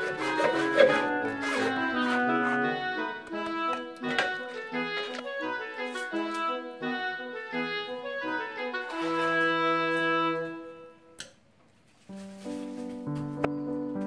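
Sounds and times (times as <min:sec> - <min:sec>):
instrumental background music: 0:00.0 - 0:11.4, 0:12.1 - 0:14.0.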